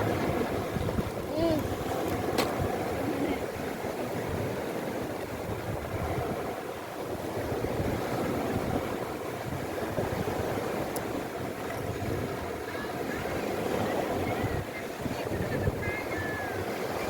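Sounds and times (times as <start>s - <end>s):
sea surf washing: 0.0s - 17.0s.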